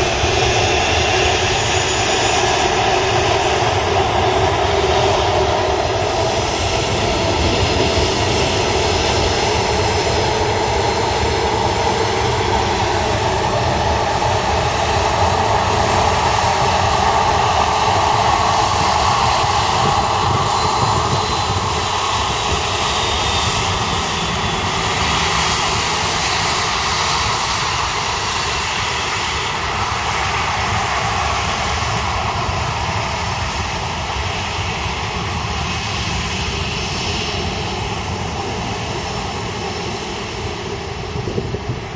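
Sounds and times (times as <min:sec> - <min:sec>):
jet engines rushing: 0:00.0 - 0:41.9.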